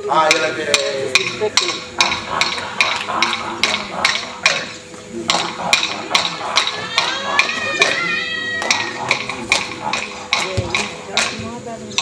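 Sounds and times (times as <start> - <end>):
wooden clapsticks beating: 0.3 - 12.0.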